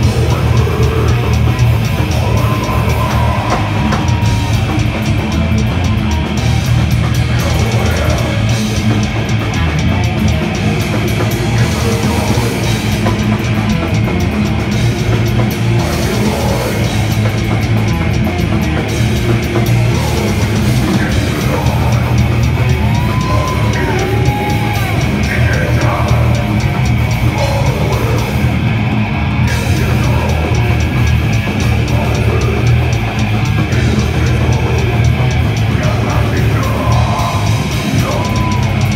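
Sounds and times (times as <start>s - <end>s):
distorted electric guitars and bass: 0.0s - 38.9s
fast dense drumming: 0.0s - 38.9s.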